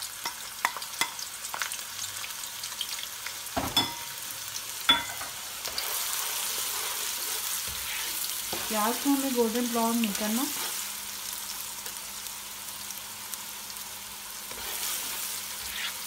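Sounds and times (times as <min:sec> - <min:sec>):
onion sizzling in oil: 0:00.0 - 0:16.0.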